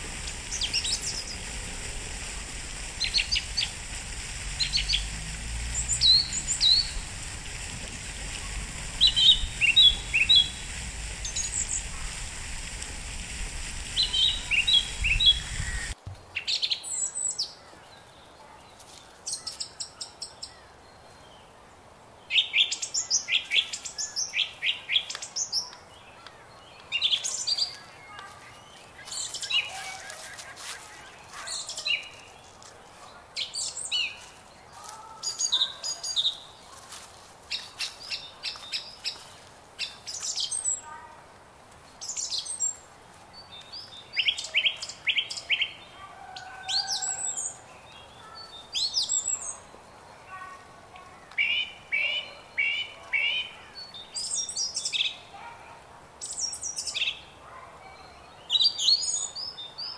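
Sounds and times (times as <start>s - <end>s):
songbirds chirping and singing: 0.0s - 12.2s, 13.8s - 21.4s, 22.3s - 41.0s, 42.0s - 50.4s, 51.2s - 55.3s.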